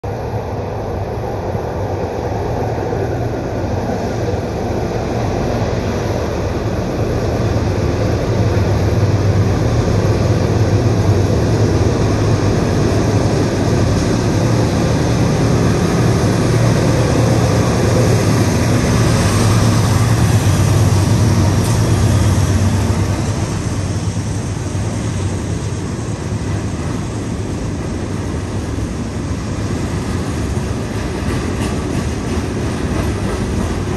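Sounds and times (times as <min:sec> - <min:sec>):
diesel locomotive engine rumble: 0:00.0 - 0:33.9
train cars rolling by: 0:00.0 - 0:33.9.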